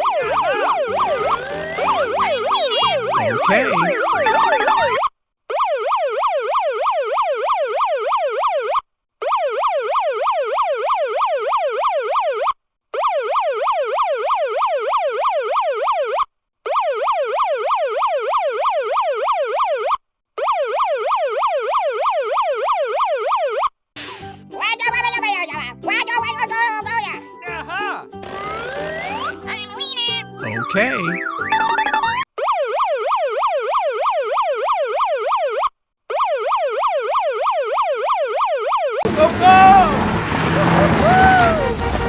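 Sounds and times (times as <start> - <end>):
electronic yelp siren: 0.0 - 23.7, 28.4 - 29.7, 30.7 - 39.8.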